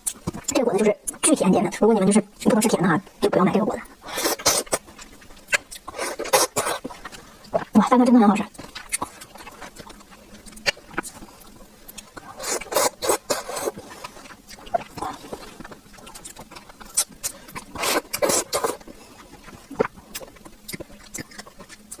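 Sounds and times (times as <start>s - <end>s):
wet chewing and mouth clicks: 0.0s - 22.0s.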